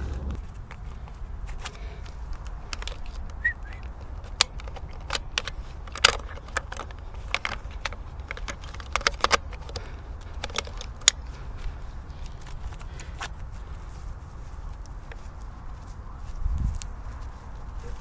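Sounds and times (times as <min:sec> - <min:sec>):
dry twigs crackling and snapping: 0:00.0 - 0:18.0
rustling: 0:00.0 - 0:18.0
steady low rumble: 0:00.0 - 0:18.0.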